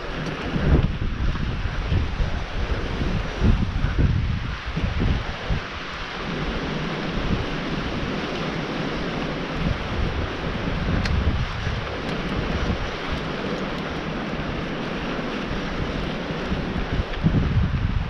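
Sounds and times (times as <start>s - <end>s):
tyres rumbling on dirt trail: 0.0s - 18.0s
wind rushing over microphone: 0.0s - 18.0s.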